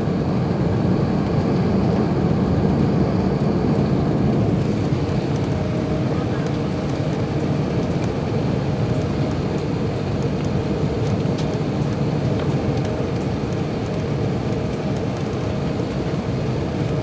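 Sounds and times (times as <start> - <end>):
airflow and engine noise: 0.0 - 17.0.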